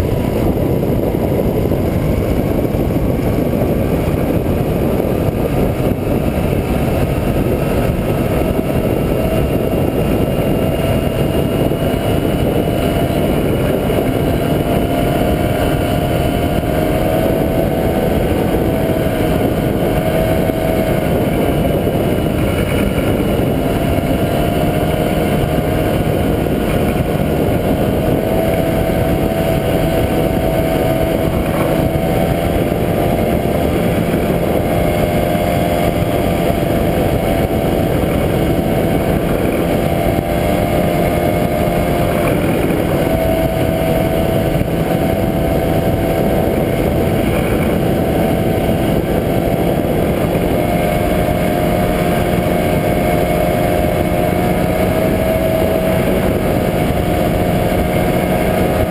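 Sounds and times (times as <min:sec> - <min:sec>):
ultralight aircraft engine drone: 0:00.0 - 0:58.9.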